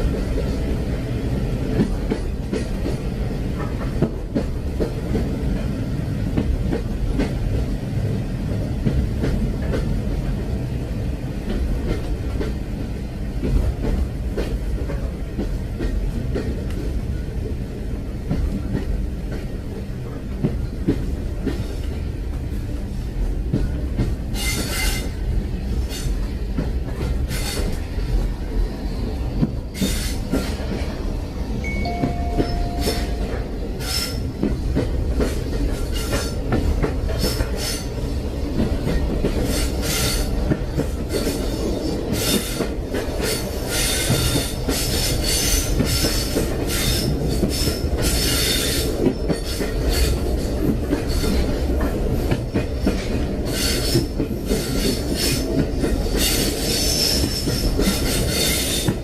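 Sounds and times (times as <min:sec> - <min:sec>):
train rumbling along rails: 0:00.0 - 0:59.0.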